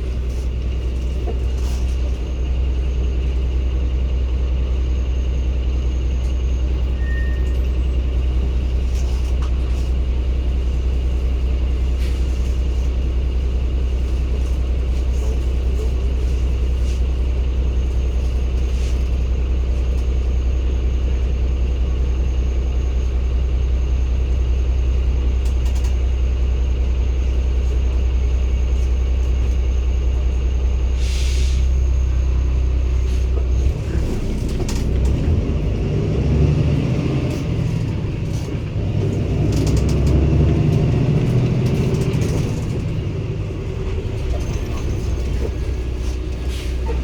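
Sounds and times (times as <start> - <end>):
bus diesel engine: 0.0 - 47.0.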